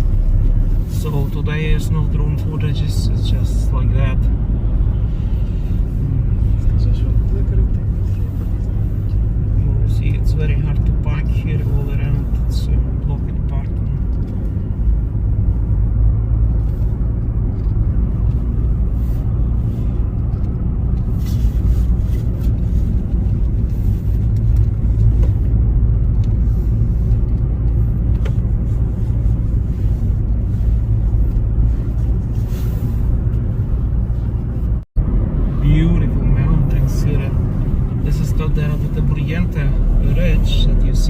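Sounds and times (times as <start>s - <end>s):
engine and tyre rumble: 0.0s - 41.0s.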